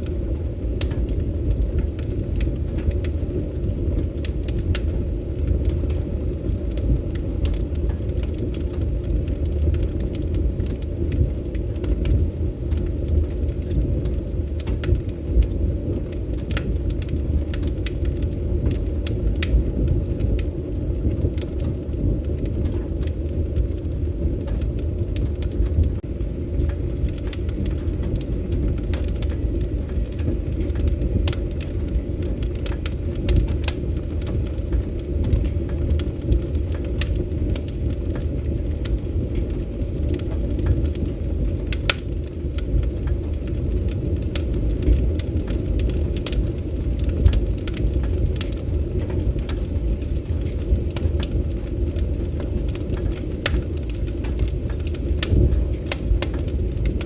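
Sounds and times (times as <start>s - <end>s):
burning wood crackling and popping: 0.0s - 57.0s
fire flames rumbling: 0.0s - 57.0s.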